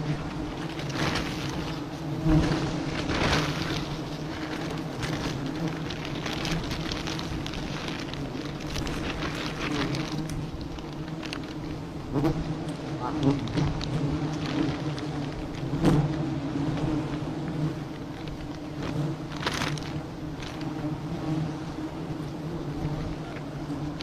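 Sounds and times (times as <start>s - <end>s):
rustling of handling: 0.0s - 21.3s
honeybees buzzing: 0.0s - 24.0s.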